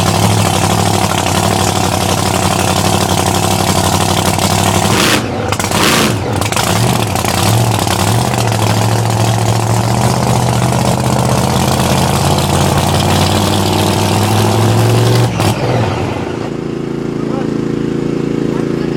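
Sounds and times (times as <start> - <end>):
engine crackling on rev limiter: 0.0 - 18.9.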